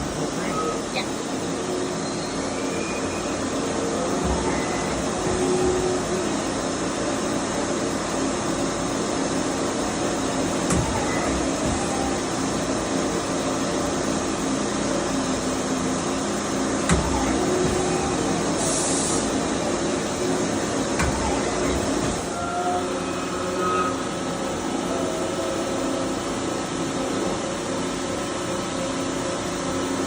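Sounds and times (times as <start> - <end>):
lathe mechanical hum: 0.0 - 30.0.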